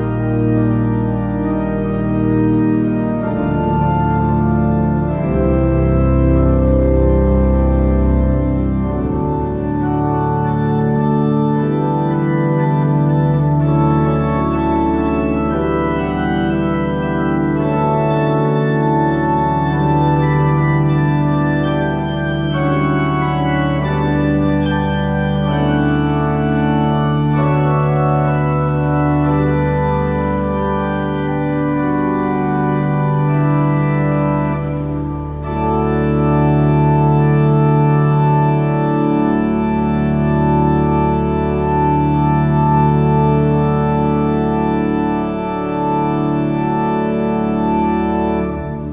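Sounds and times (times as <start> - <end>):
church organ chords: 0.0 - 48.9.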